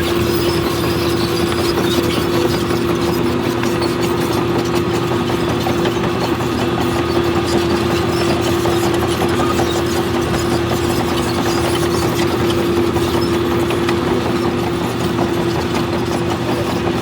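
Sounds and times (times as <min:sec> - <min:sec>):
constant machine whine: 0:00.0 - 0:17.0
diesel engine running: 0:00.0 - 0:17.0.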